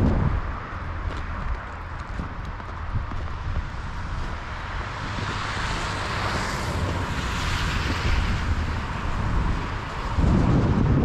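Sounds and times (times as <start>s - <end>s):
wind buffeting microphone: 0.0s - 11.0s
wind rushing through pines: 0.0s - 11.0s.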